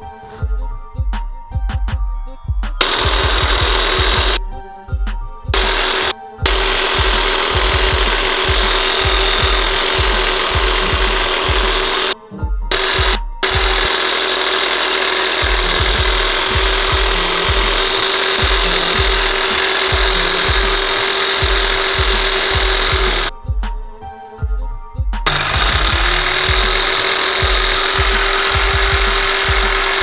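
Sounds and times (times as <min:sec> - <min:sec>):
low beat: 0:00.4 - 0:30.0
air hammer running: 0:02.8 - 0:04.4, 0:05.5 - 0:23.3, 0:25.2 - 0:30.0.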